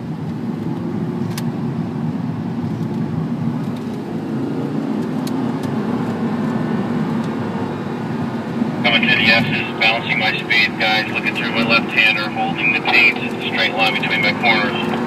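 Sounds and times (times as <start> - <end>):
sports car engine and road noise: 0.0 - 15.0.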